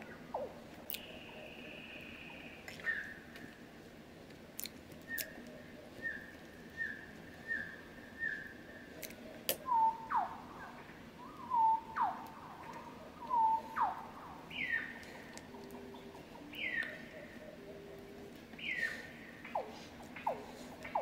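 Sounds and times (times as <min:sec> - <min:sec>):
bird whistling calls: 0:00.4 - 0:03.3, 0:05.1 - 0:08.6, 0:09.6 - 0:17.9, 0:18.6 - 0:21.0.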